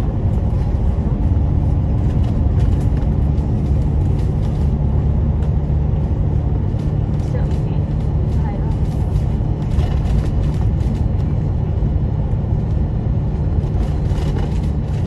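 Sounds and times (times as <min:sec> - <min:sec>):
bus engine and tyres rumbling: 0:00.0 - 0:15.0.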